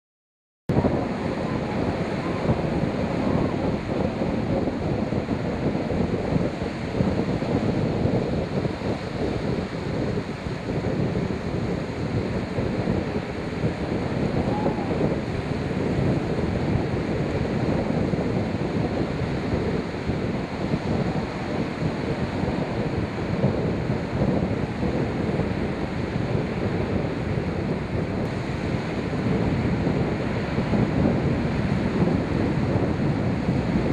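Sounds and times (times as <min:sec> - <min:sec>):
sea waves: 0:00.7 - 0:33.9
wind buffeting microphone: 0:00.7 - 0:33.9.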